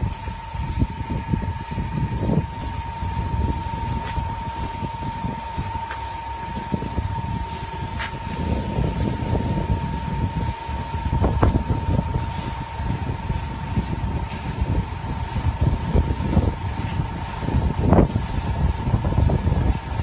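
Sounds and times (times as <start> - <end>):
concrete mixer rumbling: 0.0 - 20.0
high whine: 0.0 - 20.0.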